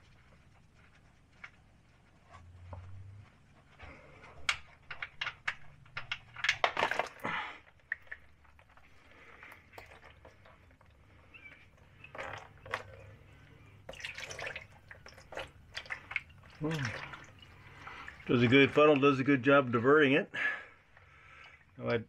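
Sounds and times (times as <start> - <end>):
gloves rustling: 0.0 - 21.8.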